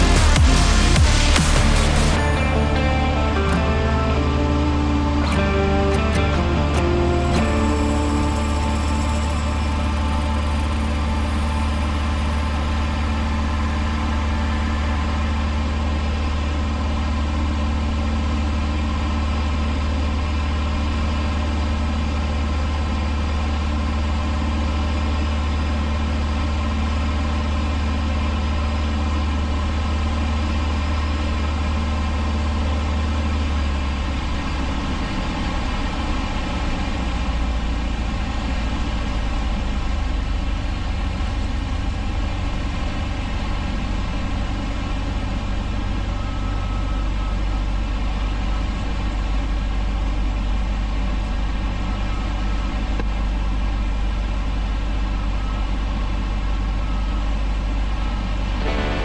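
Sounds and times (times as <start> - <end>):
airplane engine and propeller droning: 0.0 - 51.0, 56.9 - 59.0.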